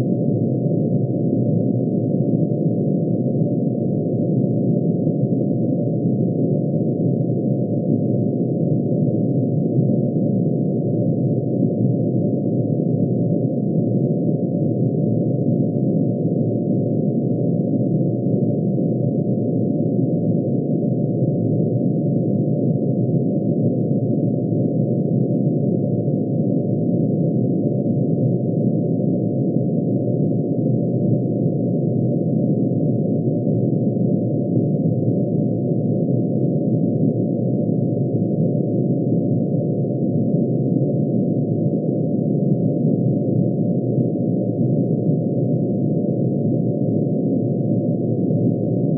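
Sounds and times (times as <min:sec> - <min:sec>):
synthesized sine wave drone: 0:00.0 - 0:48.9.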